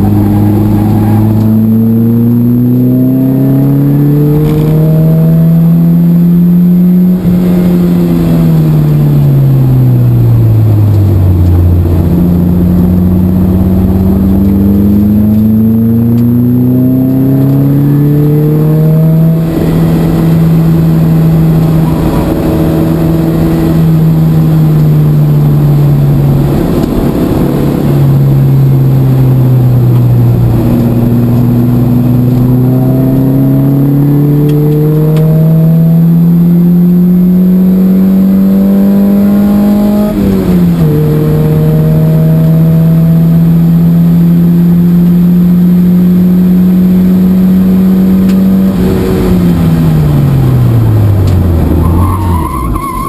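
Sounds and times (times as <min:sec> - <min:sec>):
car engine running hard: 0:00.0 - 0:53.0
road and wind noise: 0:00.0 - 0:53.0.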